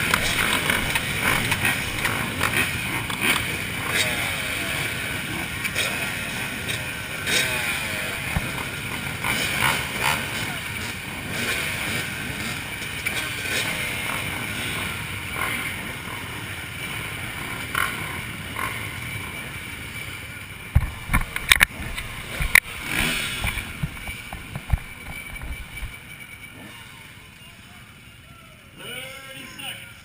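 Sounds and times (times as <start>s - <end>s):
motorcycle engines running: 0.0s - 30.0s.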